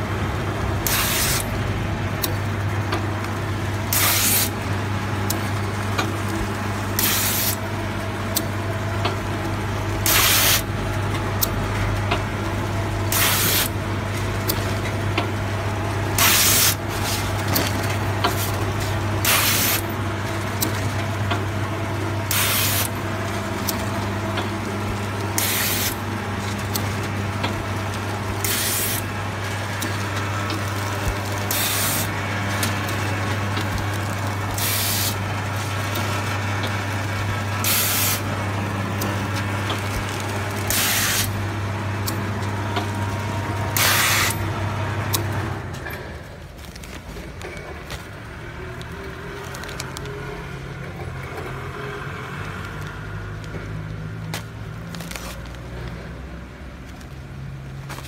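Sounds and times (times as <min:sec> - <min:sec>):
packaging machine electrical hum: 0:00.0 - 0:58.0.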